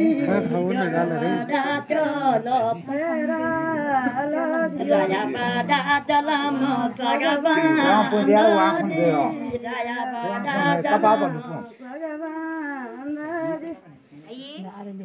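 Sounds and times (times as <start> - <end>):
women singing unaccompanied: 0.0 - 14.0.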